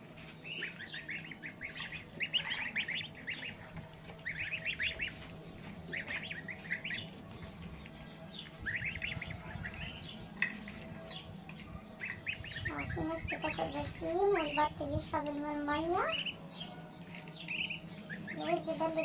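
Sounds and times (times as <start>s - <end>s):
goslings and ducklings peeping: 0.0s - 19.0s.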